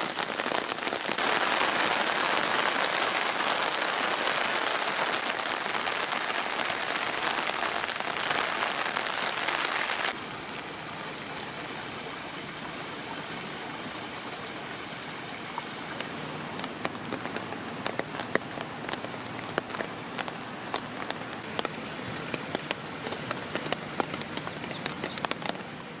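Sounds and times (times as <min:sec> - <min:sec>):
raindrops tapping: 0:00.0 - 0:11.3, 0:15.3 - 0:26.0
rain hissing: 0:00.0 - 0:26.0.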